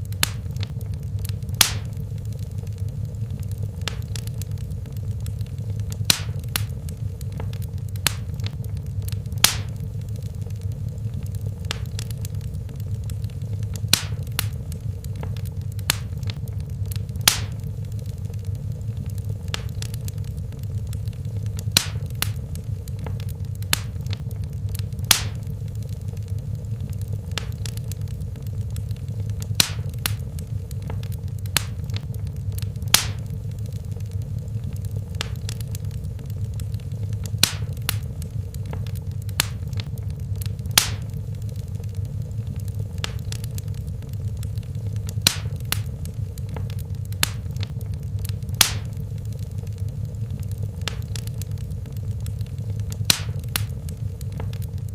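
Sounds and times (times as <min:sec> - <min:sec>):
fire crackling pops: 0:00.0 - 0:54.9
low rumble of flames: 0:00.0 - 0:54.9.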